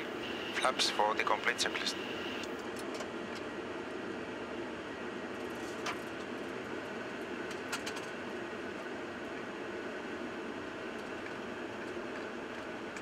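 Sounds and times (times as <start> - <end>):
cockpit airflow and engine noise: 0.0 - 13.0.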